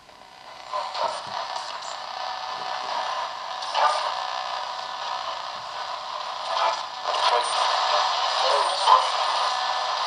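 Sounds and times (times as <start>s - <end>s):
radio blips: 0.0s - 10.0s
radio static hiss and crackle: 0.0s - 10.0s.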